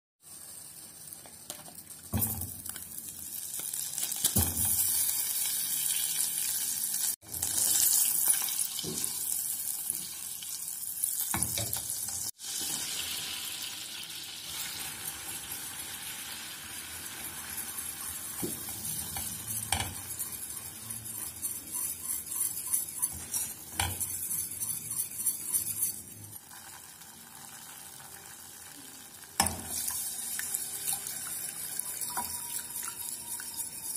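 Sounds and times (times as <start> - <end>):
fat sizzling in a pot: 0.2 - 33.9.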